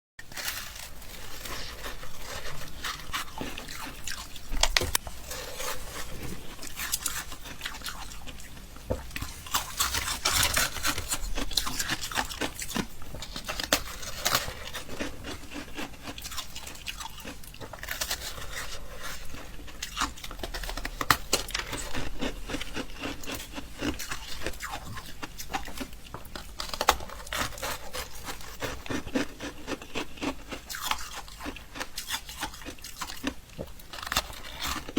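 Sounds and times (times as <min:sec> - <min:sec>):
ice crunching while chewing: 0:00.2 - 0:34.9.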